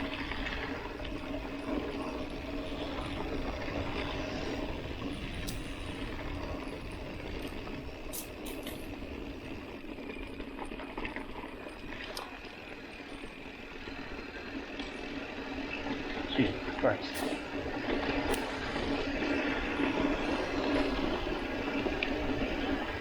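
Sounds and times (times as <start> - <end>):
bike clicks and rattles: 0.0 - 23.0
bike rumbling on dirt road: 0.0 - 23.0.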